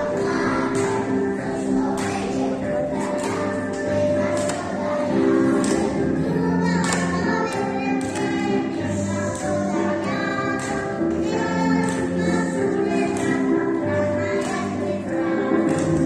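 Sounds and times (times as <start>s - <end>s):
children singing: 0.0s - 16.0s
instrumental accompaniment: 0.0s - 16.0s.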